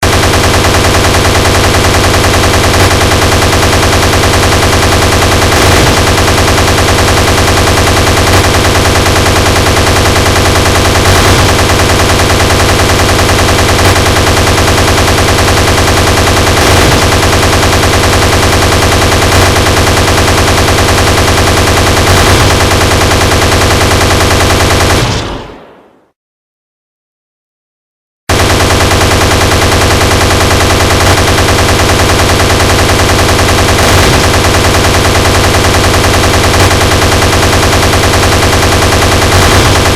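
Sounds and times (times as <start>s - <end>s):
rapid automatic gunfire: 0.0s - 25.9s, 28.3s - 39.9s.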